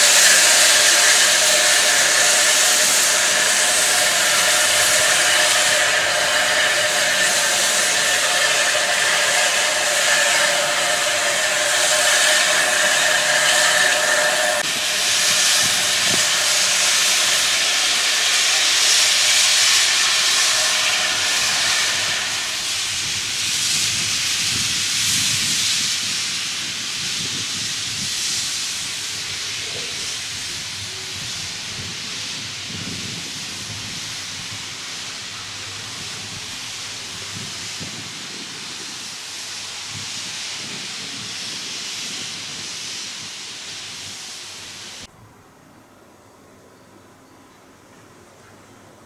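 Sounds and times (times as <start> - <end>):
steam locomotive hissing: 0.0 - 45.1.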